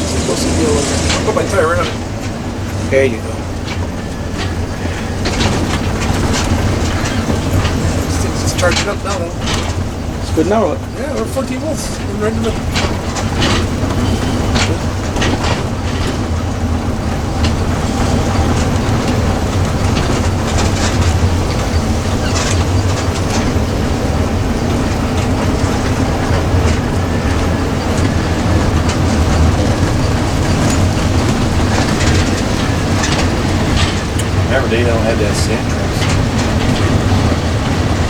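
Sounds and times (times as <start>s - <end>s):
engine and road drone: 0.0s - 38.0s
rattles and clicks: 0.0s - 38.0s.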